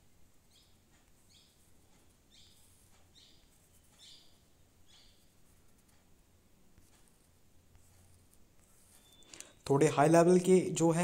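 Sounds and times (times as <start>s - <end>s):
faint bird chirping: 0.0s - 10.6s
low steady hum: 0.0s - 11.0s.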